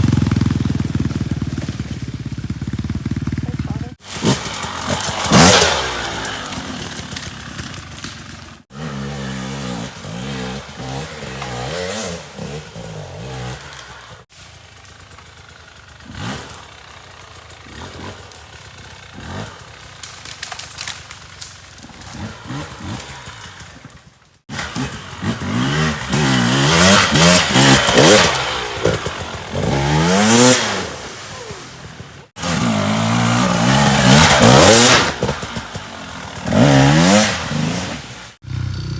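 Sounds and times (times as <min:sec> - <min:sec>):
dirt bike engines revving: 0:00.0 - 0:20.0, 0:21.8 - 0:38.9.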